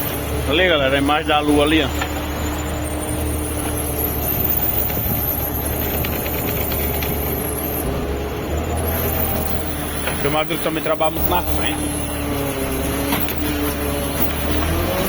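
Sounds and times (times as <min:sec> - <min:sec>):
boat engine humming: 0:00.0 - 0:15.0
wind: 0:00.0 - 0:15.0.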